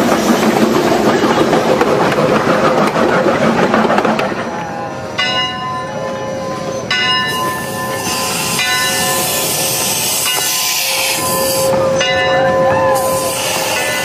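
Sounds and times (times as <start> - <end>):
steam locomotive hissing: 0.0 - 5.2, 5.8 - 14.0.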